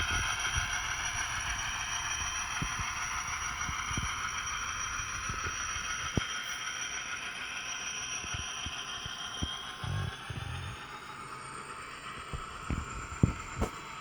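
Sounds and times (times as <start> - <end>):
diesel locomotive engine sound: 0.0 - 14.0.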